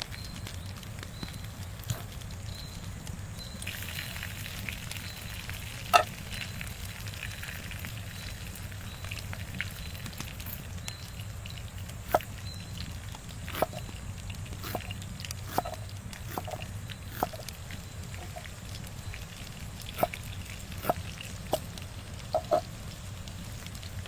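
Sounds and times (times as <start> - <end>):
campfire crackling: 0.0 - 24.0
steak sizzling over campfire: 0.0 - 24.0.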